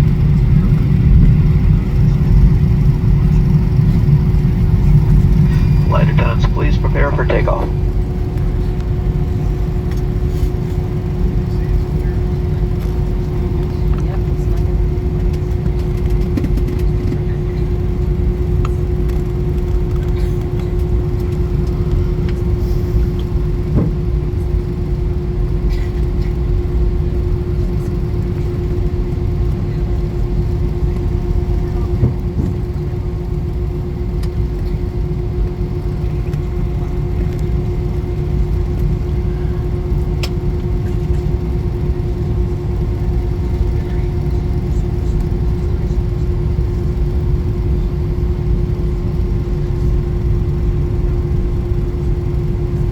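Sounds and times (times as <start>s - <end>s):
airliner cabin rumble: 0.0s - 52.9s
steady engine hum: 0.0s - 52.9s.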